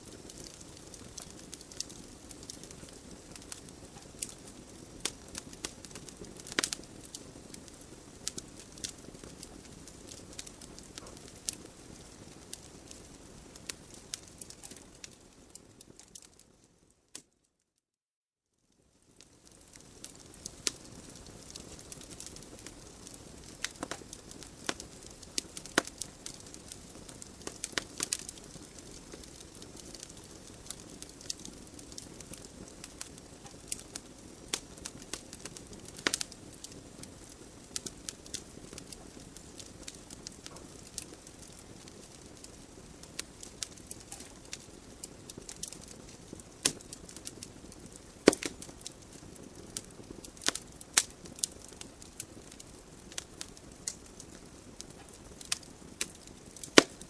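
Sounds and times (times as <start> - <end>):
wood fire crackling in fireplace: 0.0 - 17.5, 18.7 - 57.0.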